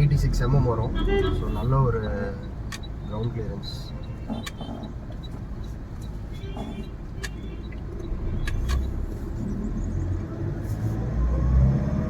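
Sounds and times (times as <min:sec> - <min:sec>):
diesel engine and road rumble: 0:00.0 - 0:12.0.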